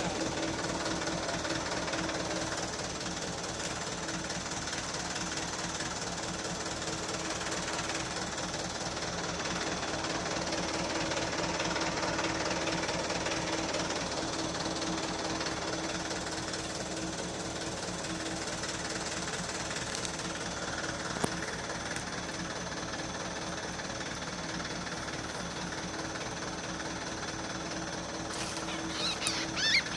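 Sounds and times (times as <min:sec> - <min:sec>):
small motorcycle engine running: 0:00.0 - 0:29.9.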